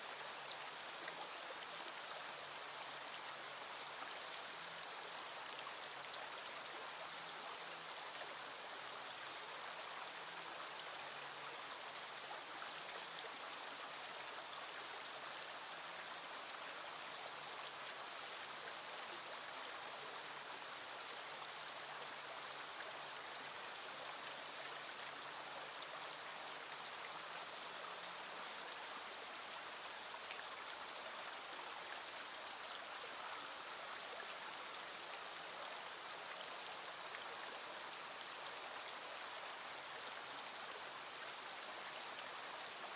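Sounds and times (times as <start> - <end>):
small stream flowing: 0.0 - 42.9.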